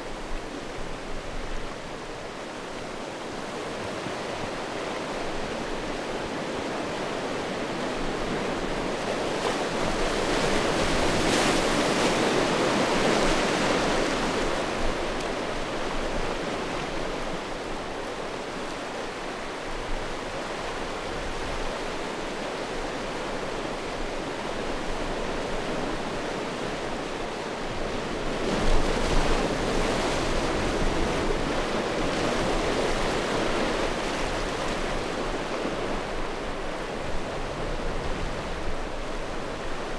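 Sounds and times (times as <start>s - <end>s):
sea waves on stony shore: 0.2s - 39.9s.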